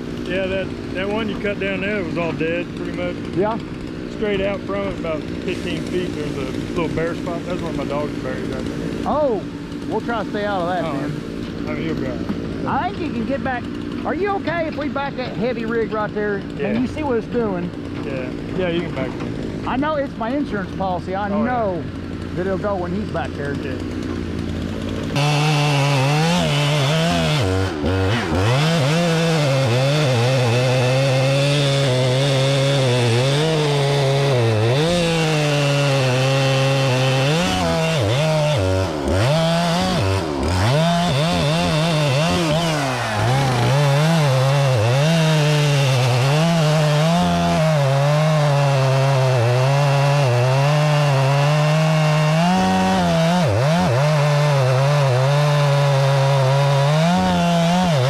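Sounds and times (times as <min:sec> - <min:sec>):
chainsaw cutting timber: 0:00.0 - 0:58.0.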